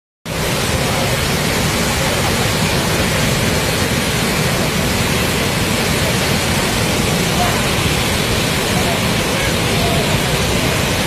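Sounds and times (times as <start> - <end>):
waterfall roaring: 0.3 - 11.0.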